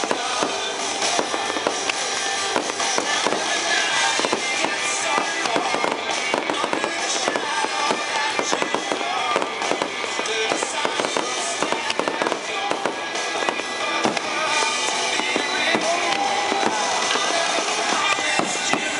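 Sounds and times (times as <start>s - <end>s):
fireworks bursting: 0.0s - 18.9s
music playing: 0.0s - 18.9s.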